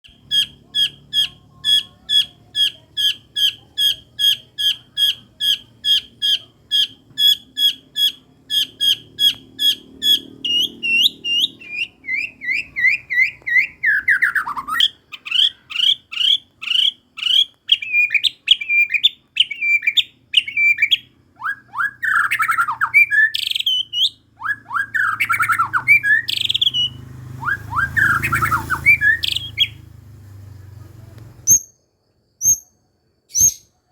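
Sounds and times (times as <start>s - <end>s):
bird singing imitation calls: 0.0s - 30.5s, 31.4s - 31.8s, 32.4s - 33.9s.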